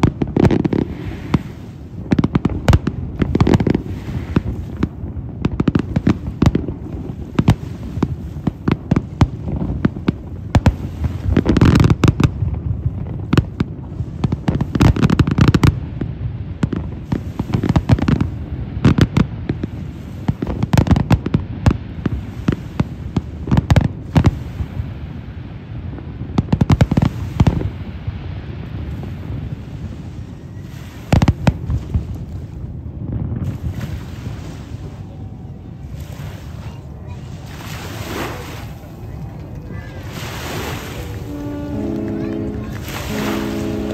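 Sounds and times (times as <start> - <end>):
fireworks bursts and bangs: 0.0 - 43.9.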